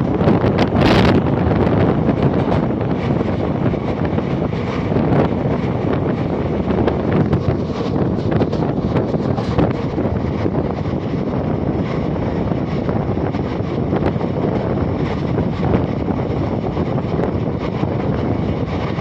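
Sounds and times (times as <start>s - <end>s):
train rumbling at speed: 0.0s - 19.0s
wind buffeting microphone: 0.0s - 19.0s.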